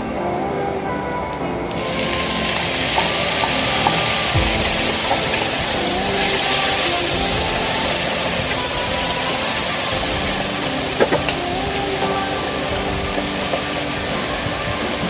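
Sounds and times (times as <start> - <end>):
vegetables sizzling in hot oil: 1.7 - 15.0.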